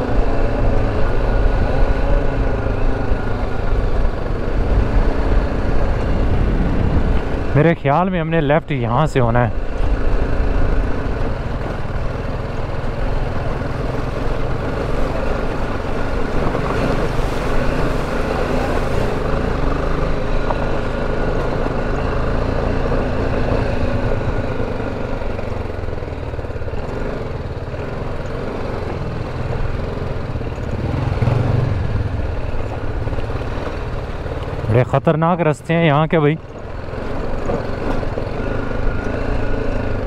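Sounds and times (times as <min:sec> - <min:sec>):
motorcycle engine rumbling: 0:00.0 - 0:40.0.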